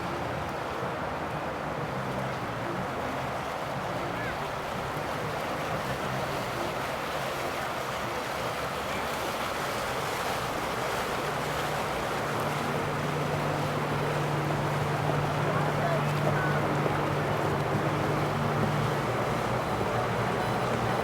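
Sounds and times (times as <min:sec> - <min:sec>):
water wash rushing: 0:00.0 - 0:21.0
wind: 0:00.0 - 0:21.0
boat engine running: 0:02.5 - 0:21.0.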